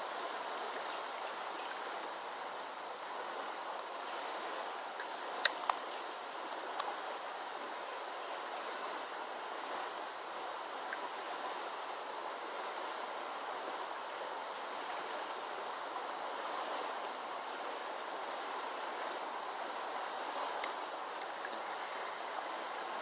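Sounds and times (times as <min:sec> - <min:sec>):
water rushing in a creek: 0:00.0 - 0:23.0.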